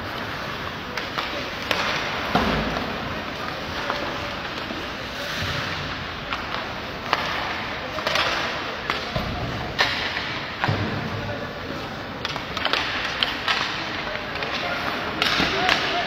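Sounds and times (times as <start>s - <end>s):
hockey sticks hitting pucks: 0.0s - 16.0s
pucks cracking off boards: 0.0s - 16.0s.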